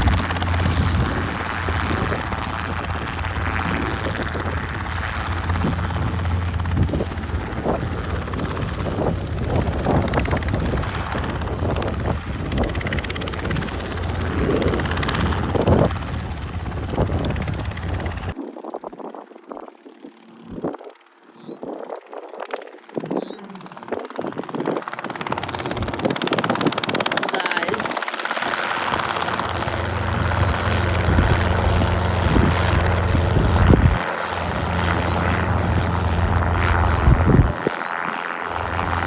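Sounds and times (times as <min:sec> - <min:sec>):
helicopter rotor and engine: 0:00.0 - 0:39.0
wind buffeting microphone: 0:00.0 - 0:39.0.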